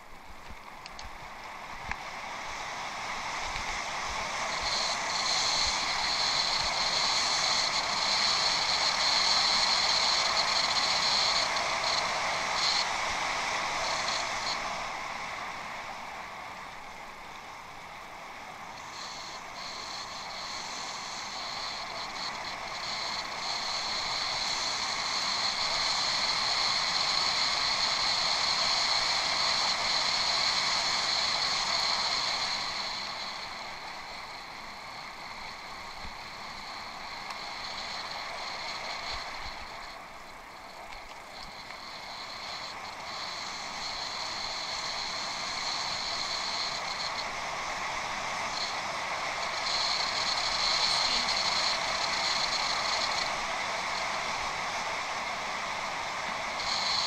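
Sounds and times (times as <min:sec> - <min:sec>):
bicycle rolling and drivetrain noise: 0:00.0 - 0:57.0.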